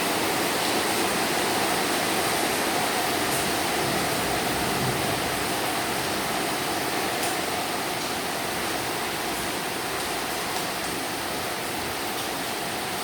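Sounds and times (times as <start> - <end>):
heavy rain and hail falling: 0.0 - 13.0.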